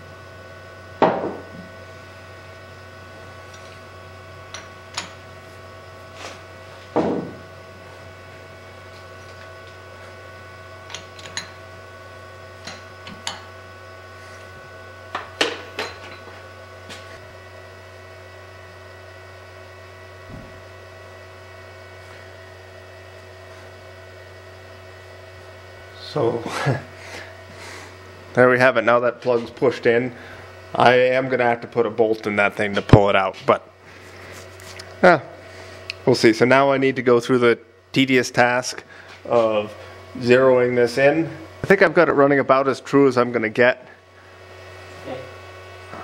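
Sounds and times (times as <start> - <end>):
electrical hum: 0.0 - 46.0.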